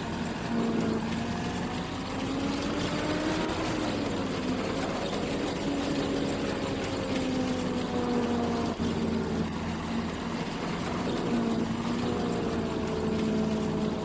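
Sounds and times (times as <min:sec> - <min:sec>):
combine harvester engine hum: 0:00.0 - 0:14.0
rush of machinery noise: 0:00.0 - 0:14.0.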